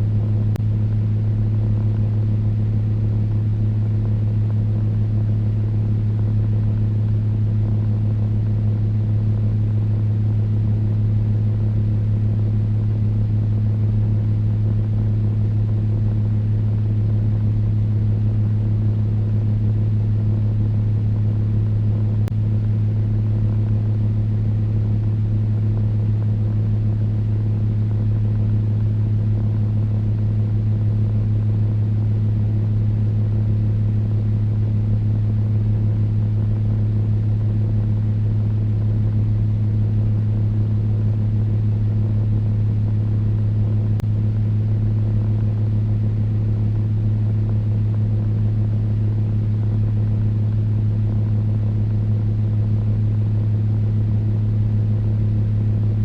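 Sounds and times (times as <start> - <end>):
electric fan running: 0.0 - 56.0.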